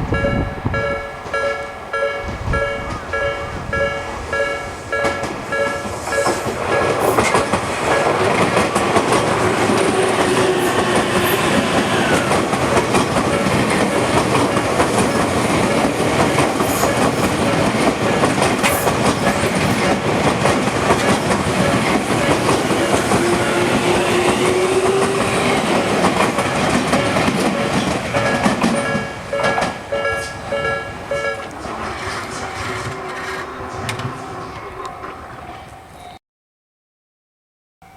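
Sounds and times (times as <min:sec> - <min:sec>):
electric train passing: 0:00.0 - 0:36.2
level crossing warning bell: 0:00.1 - 0:08.6, 0:10.1 - 0:36.2
wheels clattering over rail joints: 0:00.8 - 0:34.3.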